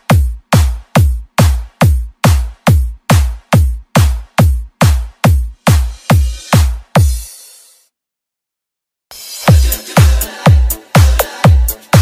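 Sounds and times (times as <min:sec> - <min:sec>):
heavy kick drum with pitch sweep: 0:00.0 - 0:07.4, 0:09.5 - 0:12.0
bass-boosted dance music: 0:00.0 - 0:07.8, 0:09.1 - 0:12.0.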